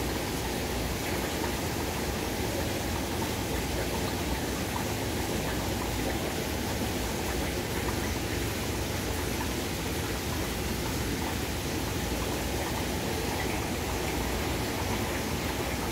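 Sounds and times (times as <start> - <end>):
aquarium water rushing: 0.0 - 15.9.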